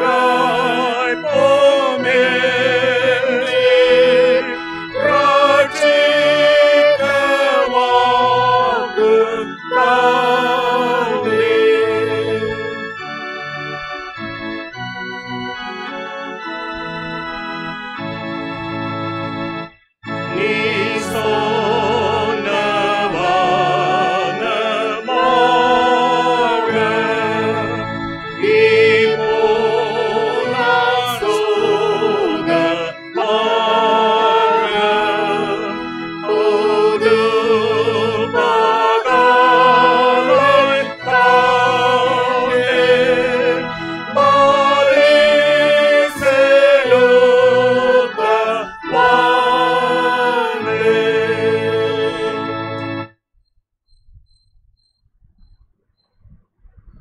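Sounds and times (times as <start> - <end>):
person singing a hymn: 0.0 - 14.2, 20.2 - 53.1
electronic keyboard chords: 0.0 - 53.2.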